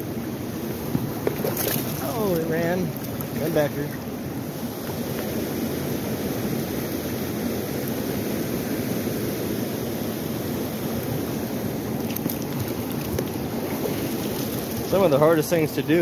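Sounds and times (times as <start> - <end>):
fast river current rushing: 0.0 - 16.0.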